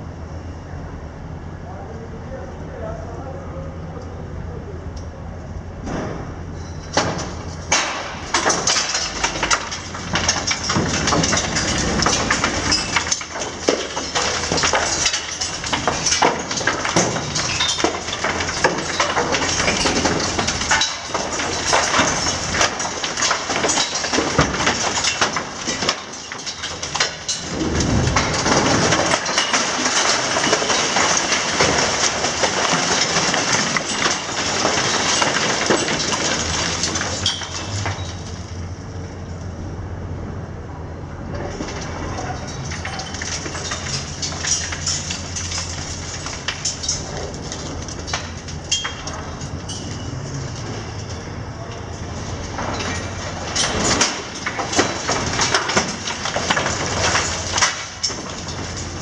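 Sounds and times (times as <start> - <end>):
heavy rumbling crash: 5.6 - 59.0
concrete debris crashing down: 6.9 - 38.8, 41.3 - 59.0.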